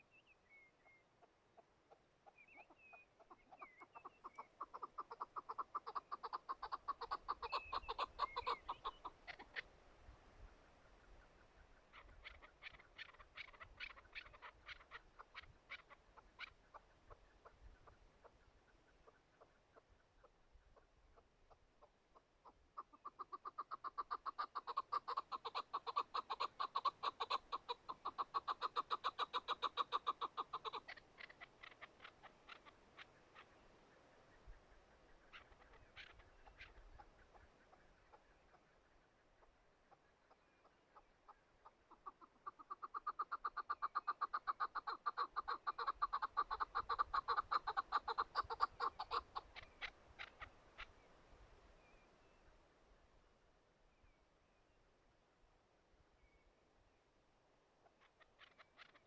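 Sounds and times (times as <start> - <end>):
partridge clucking calls: 0.8 - 9.7, 10.4 - 51.1, 57.8 - 59.0.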